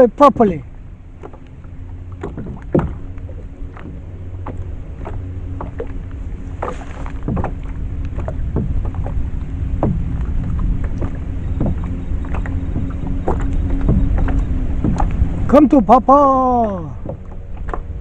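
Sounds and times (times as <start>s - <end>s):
low wind rumble: 0.0s - 18.0s
water lapping against hull: 0.0s - 18.0s.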